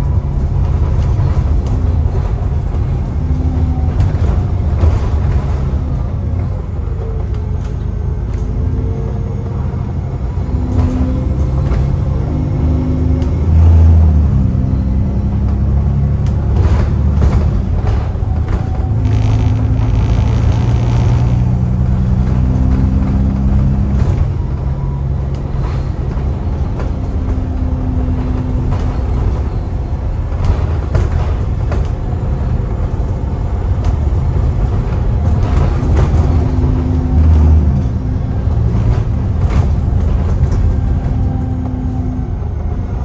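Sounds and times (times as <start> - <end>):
bus engine rumble: 0.0 - 43.0
road noise: 0.0 - 43.0.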